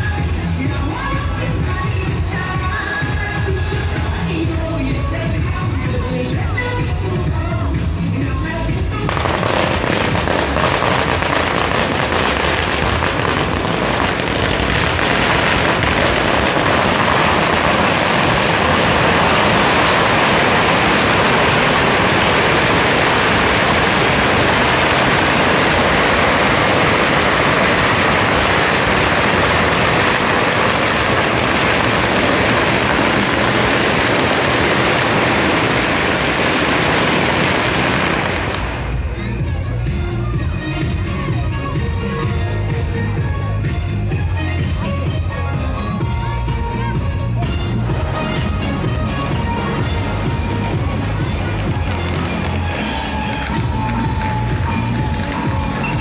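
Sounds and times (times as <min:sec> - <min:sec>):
firecrackers crackling: 0:08.2 - 0:56.0.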